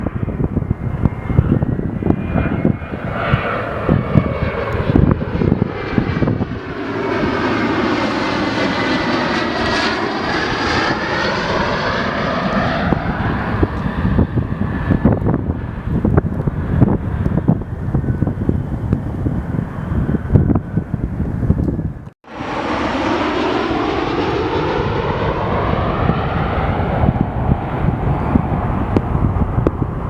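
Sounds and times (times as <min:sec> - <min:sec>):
airliner engine noise overhead: 0:00.0 - 0:30.0
wind buffeting microphone: 0:00.0 - 0:30.0.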